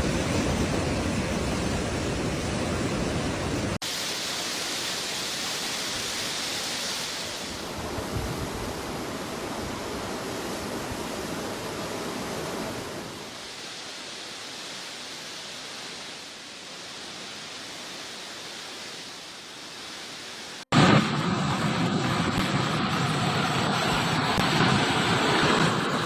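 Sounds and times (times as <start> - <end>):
hissy water noise: 0.0 - 26.0
rushing water: 0.0 - 26.0.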